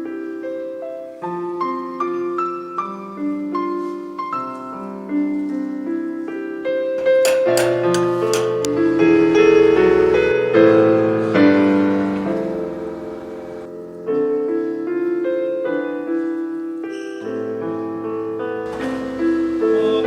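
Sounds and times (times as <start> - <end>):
piano playing slow chords: 0.0 - 20.0.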